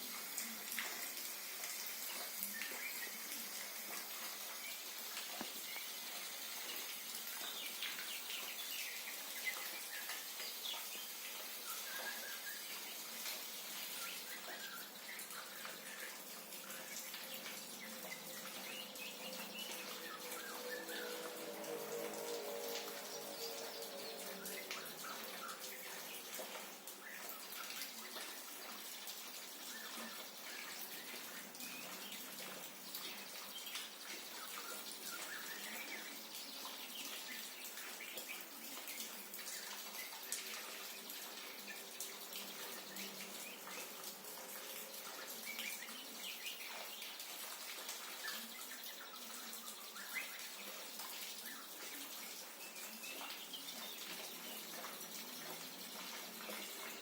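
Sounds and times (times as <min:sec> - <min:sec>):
dripping water: 0:00.0 - 0:57.0
steady rain: 0:00.0 - 0:57.0.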